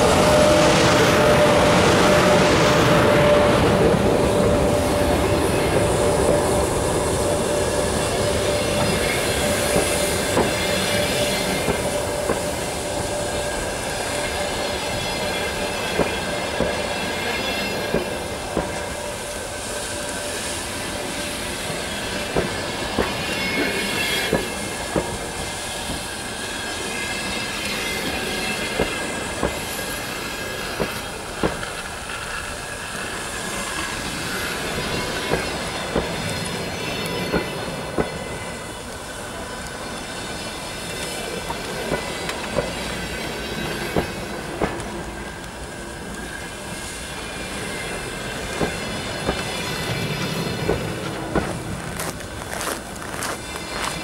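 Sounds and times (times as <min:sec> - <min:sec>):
locomotive hum: 0:00.0 - 0:54.0
wheels and brakes squealing: 0:00.0 - 0:54.0.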